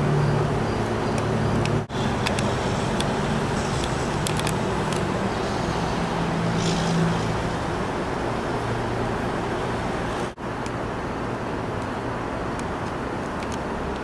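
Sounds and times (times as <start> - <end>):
low engine hum: 0.0 - 14.0
road traffic rushing: 0.0 - 14.0.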